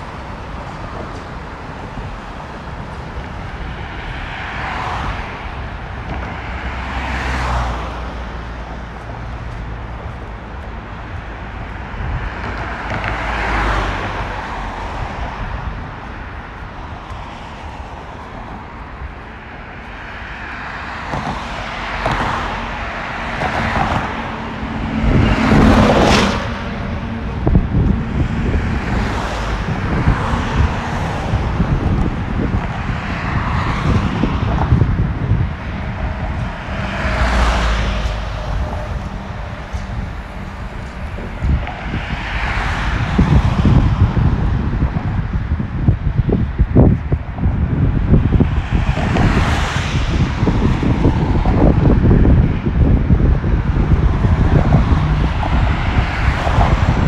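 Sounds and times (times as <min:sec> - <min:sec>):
cars passing close by: 0:00.0 - 0:57.0.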